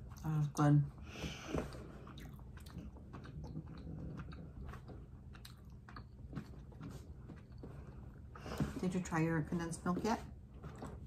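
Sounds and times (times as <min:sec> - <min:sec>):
person chewing soft bread: 0:00.0 - 0:08.7, 0:10.3 - 0:11.0.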